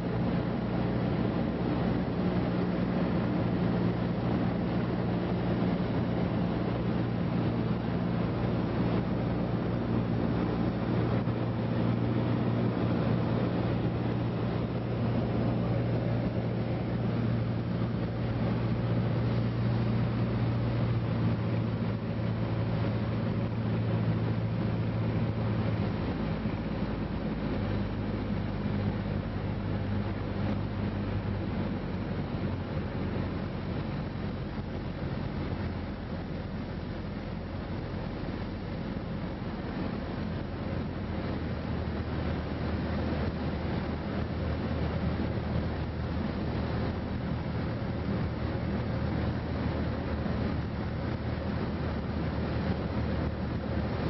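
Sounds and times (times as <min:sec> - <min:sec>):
airplane engine and propeller: 0:00.0 - 0:54.0
rushing air: 0:00.0 - 0:54.0.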